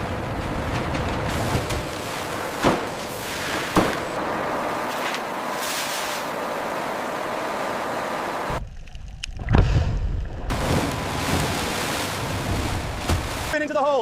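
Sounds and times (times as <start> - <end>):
sea rushing: 0.0 - 13.7
wind: 0.0 - 14.0.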